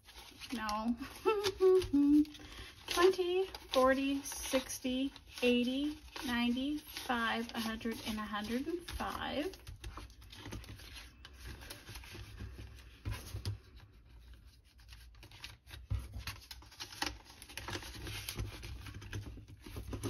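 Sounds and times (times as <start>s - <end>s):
paper and plastic rustling: 0.0s - 20.0s.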